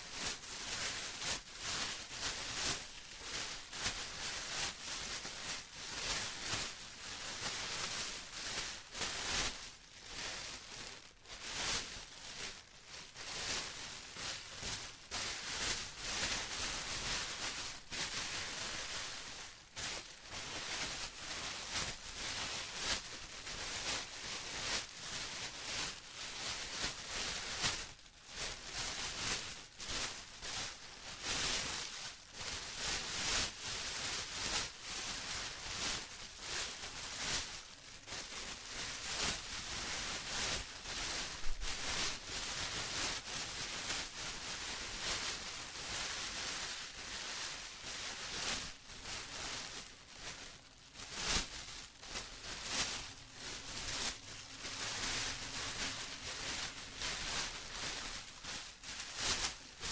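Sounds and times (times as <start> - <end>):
plastic rustling and crinkling: 0.0 - 59.9.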